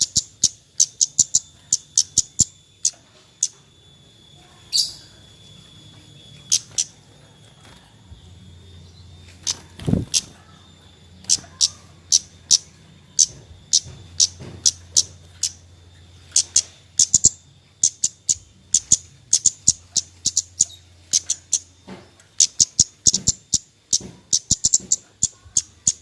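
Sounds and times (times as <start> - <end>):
sharp high bird chip calls: 0.0 - 26.0.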